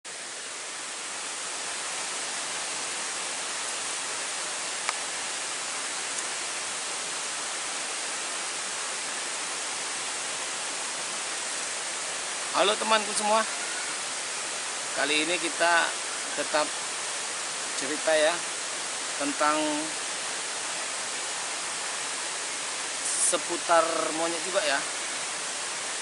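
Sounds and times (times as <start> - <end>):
flowing water rushing: 0.1 - 26.0.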